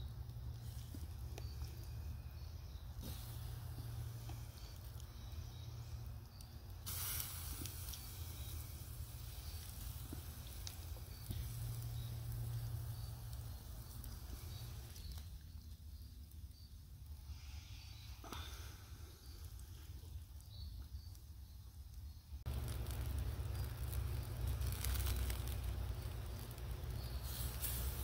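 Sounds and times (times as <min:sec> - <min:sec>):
campfire crackles: 0:00.0 - 0:28.0
chicken sizzling on grill: 0:00.2 - 0:17.0, 0:18.9 - 0:28.0.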